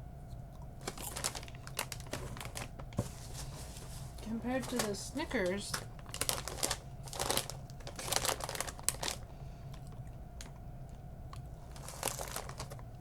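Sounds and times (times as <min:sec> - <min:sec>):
plastic bags rustling and crinkling: 0:00.8 - 0:09.9, 0:11.6 - 0:13.0.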